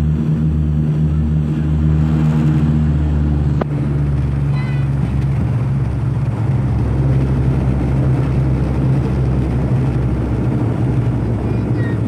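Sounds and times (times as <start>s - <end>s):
airliner engine drone in cabin: 0.0s - 12.0s.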